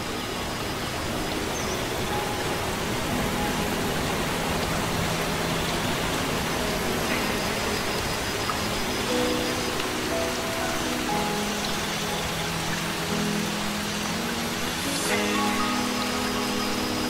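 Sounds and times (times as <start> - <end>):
waterfall rushing water: 0.0 - 17.0.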